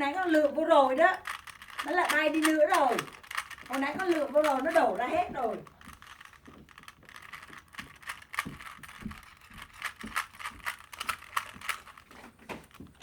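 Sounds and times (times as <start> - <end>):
puzzle cube plastic clicks: 0.2 - 12.1.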